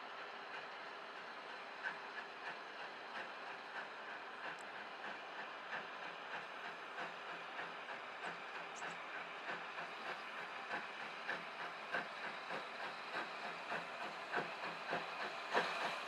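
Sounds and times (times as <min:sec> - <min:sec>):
steady hiss: 0:00.0 - 0:16.0
train wheels clicking over rail joints: 0:00.1 - 0:16.0.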